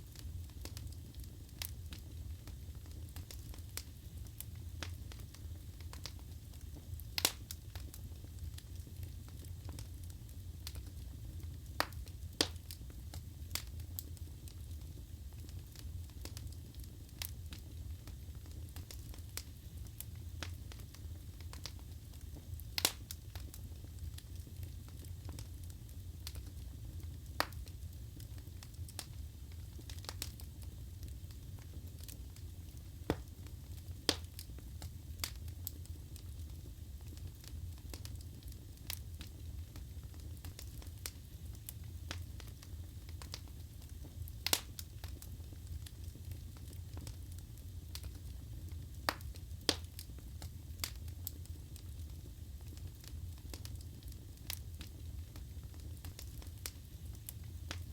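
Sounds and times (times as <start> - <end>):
wood fire flames rumbling: 0.0 - 57.9
logs crackling and popping: 0.1 - 57.9.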